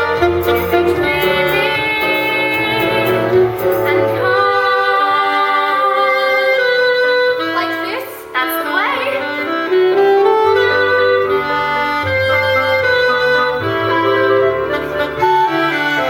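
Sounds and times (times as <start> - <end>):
show tune music: 0.0 - 16.0.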